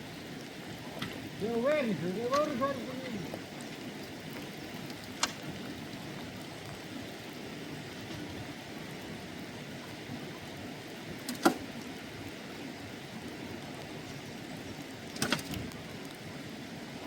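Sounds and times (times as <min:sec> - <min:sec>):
rain and running water: 0:00.0 - 0:17.0.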